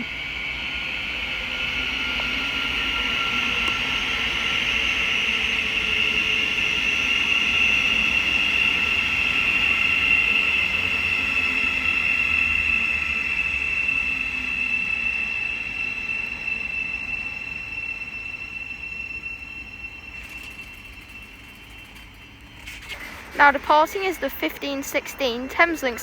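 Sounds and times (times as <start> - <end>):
electric train running slowly: 0.0 - 26.0
high-pitched train whine: 0.0 - 26.0.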